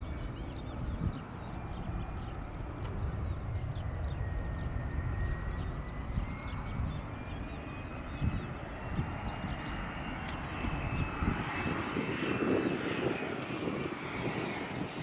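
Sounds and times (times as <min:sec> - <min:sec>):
distant jet engine whine: 0:00.0 - 0:15.0
small birds chirping: 0:00.1 - 0:15.0.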